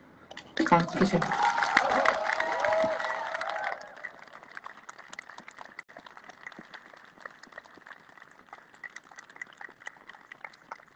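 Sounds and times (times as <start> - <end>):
sparse hand claps: 1.2 - 10.9.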